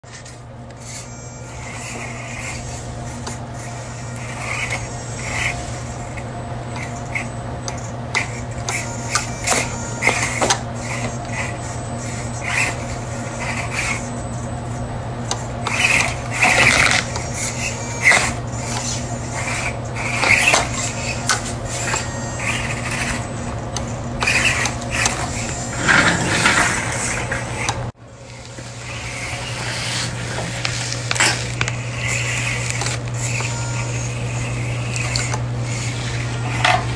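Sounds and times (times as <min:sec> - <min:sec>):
toy motor humming: 0:00.2 - 0:36.9.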